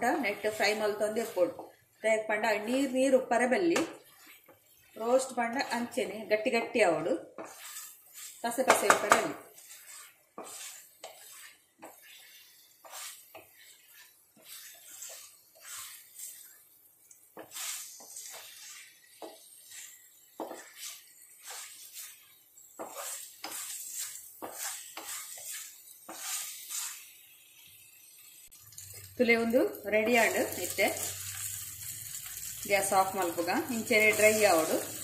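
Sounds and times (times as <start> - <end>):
spatula scraping frying pan: 0.0 - 35.0.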